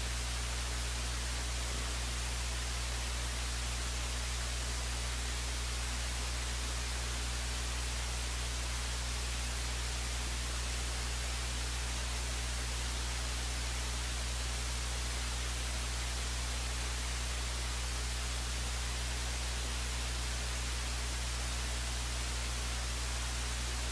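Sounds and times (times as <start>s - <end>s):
constant hiss: 0.0s - 23.9s
steady electrical hum: 0.0s - 23.9s.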